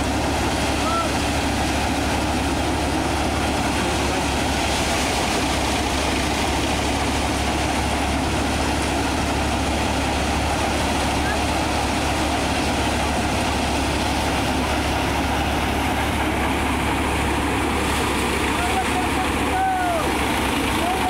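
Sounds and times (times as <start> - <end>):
paddy thresher running: 0.0 - 21.0
tractor diesel engine: 0.0 - 21.0.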